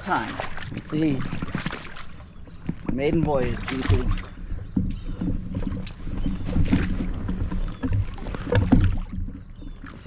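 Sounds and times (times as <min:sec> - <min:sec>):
water sloshing and splashing: 0:00.0 - 0:10.0
wind rumbling on microphone: 0:00.0 - 0:10.0.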